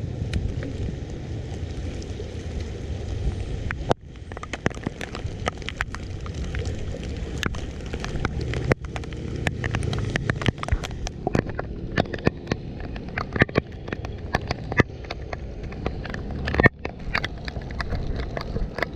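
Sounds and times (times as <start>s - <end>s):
rushing water: 0.0s - 18.9s.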